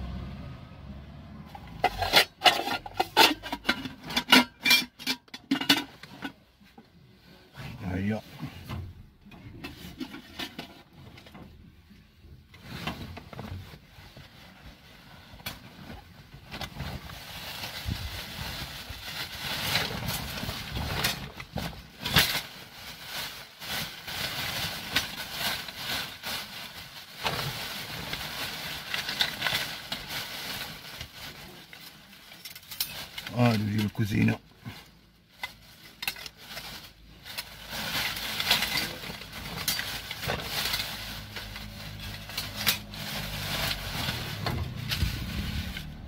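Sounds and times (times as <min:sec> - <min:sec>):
bags rustling and crinkling: 0:05.6 - 0:46.0.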